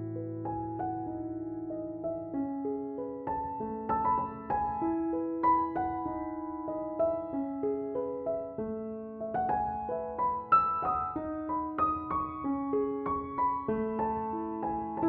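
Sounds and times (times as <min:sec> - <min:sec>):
gentle slow piano music: 0:00.0 - 0:15.0.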